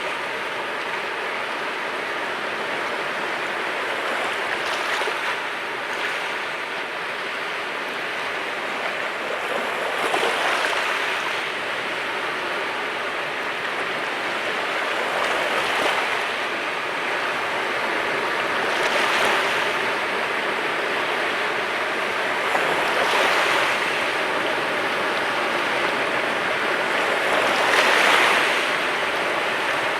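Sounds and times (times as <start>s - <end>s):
sea waves washing onto shore: 0.0s - 29.9s.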